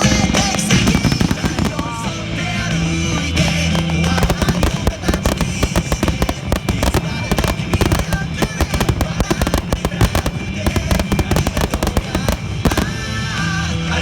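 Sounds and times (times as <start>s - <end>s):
fireworks bursting and crackling: 0.0s - 14.0s.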